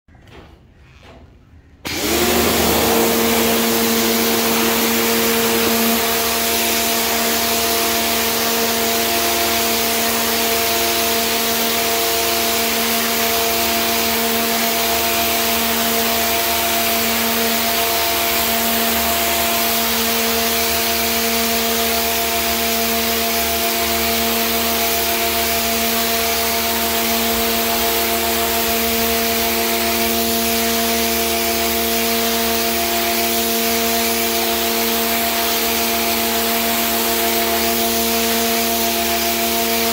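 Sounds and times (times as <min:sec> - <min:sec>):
pressure washer motor hum: 0:01.8 - 0:39.9
water jet hissing on concrete: 0:01.9 - 0:39.9.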